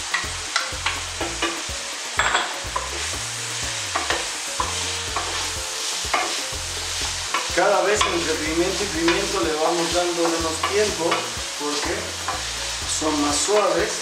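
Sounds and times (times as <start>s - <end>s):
meat and vegetables sizzling: 0.0s - 14.0s.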